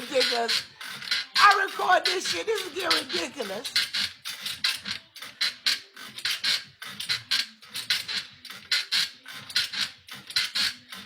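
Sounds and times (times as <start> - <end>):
bed squeaking rhythmically: 0.0 - 11.0.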